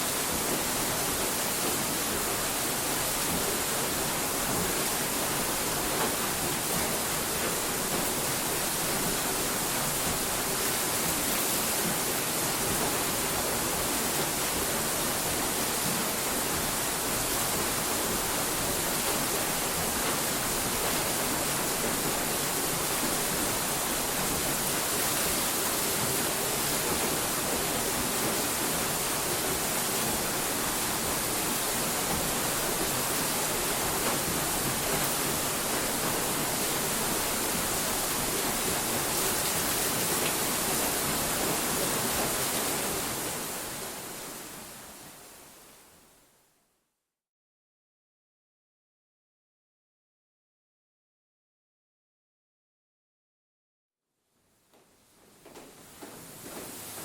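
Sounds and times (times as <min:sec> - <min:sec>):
steady hiss of noise: 0:00.0 - 0:46.8, 0:54.1 - 0:57.0.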